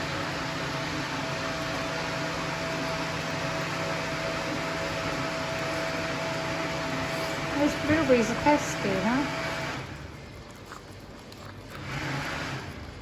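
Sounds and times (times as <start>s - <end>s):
machine whirring hum: 0.0s - 13.0s.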